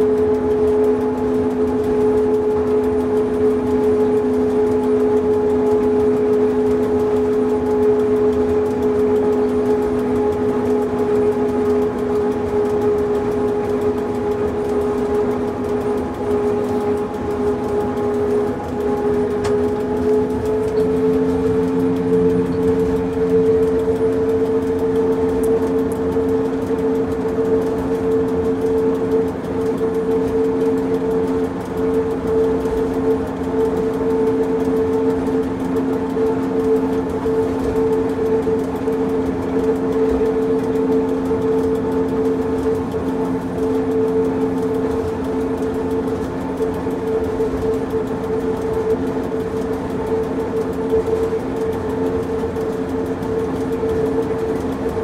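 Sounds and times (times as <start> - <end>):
railcar motor whine: 0.0 - 55.0
train running rumble: 0.0 - 55.0.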